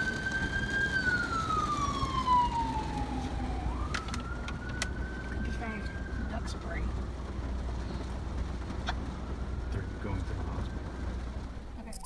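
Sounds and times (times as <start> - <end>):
fire truck siren wailing: 0.0 - 11.6.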